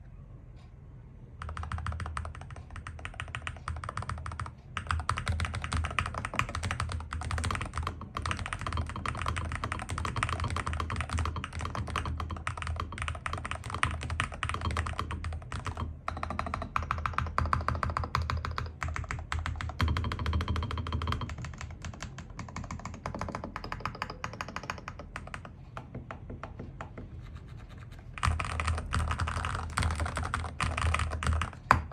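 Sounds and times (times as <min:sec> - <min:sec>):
mechanical keyboard typing: 0:01.4 - 0:31.9.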